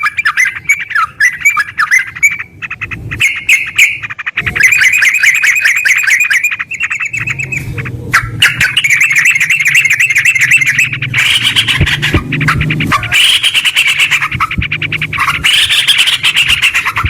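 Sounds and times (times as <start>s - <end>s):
bulbul chattering chirps: 0.0s - 17.0s.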